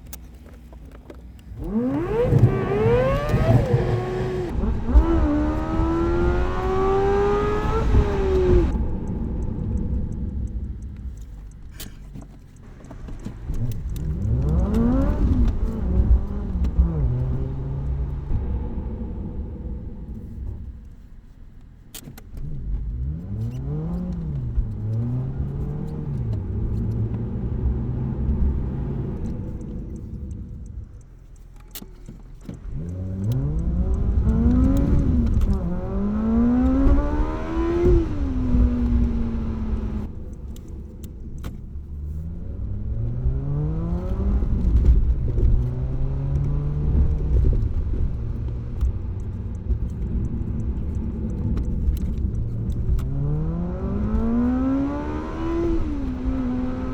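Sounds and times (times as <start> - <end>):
sped-up car engine accelerating: 1.5 - 21.0, 22.3 - 31.8, 32.4 - 56.9.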